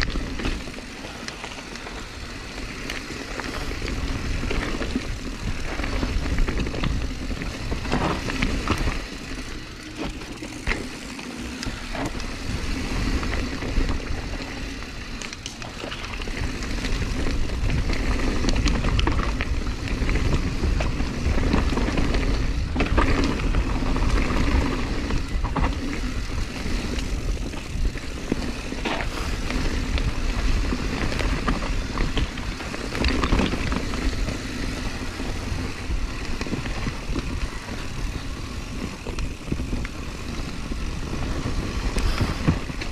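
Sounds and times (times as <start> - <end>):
bike rattling and knocking: 0.0 - 42.9
bike tyres rolling over dirt: 0.0 - 42.9
wind rumble on microphone: 0.0 - 42.9.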